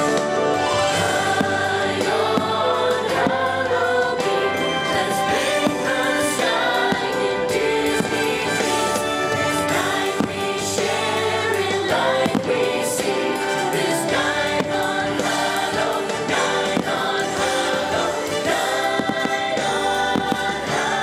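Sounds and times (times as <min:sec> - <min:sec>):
fireworks bangs: 0:00.0 - 0:21.0
music with choir singing: 0:00.0 - 0:21.0.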